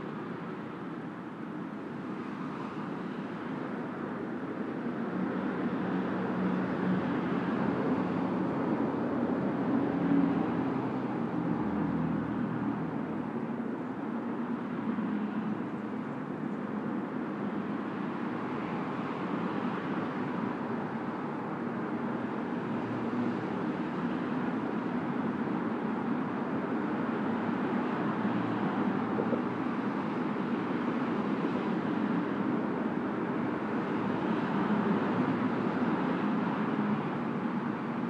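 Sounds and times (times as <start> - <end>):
distant road traffic: 0.0 - 38.0.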